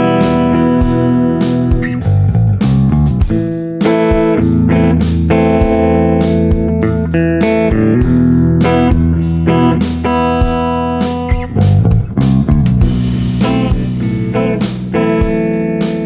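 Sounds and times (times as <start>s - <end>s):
clean electric guitar: 0.0s - 16.0s.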